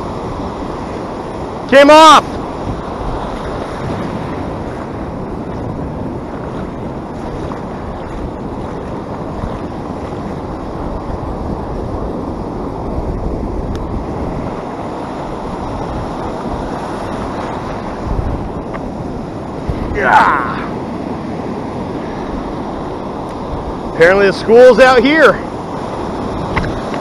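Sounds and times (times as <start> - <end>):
ocean surf breaking: 0.0 - 27.0
wind buffeting microphone: 0.0 - 27.0.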